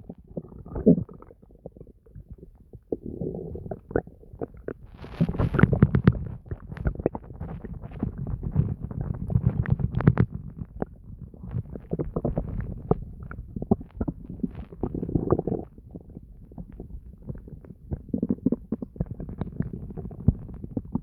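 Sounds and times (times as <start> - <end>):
stomach gurgling and growling: 0.0 - 21.0.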